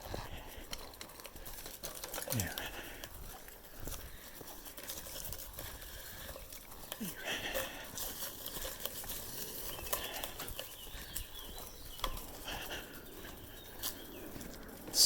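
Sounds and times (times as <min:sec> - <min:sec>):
footsteps crunching leaves and twigs: 0:00.0 - 0:15.0.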